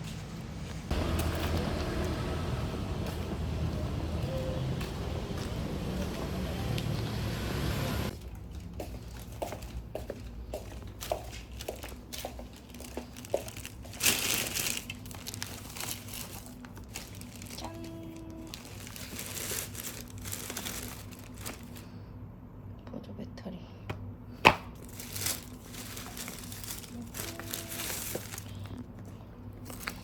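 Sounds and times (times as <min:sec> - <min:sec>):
crinkling and rustling handling noise: 0:00.0 - 0:22.0, 0:24.8 - 0:30.0.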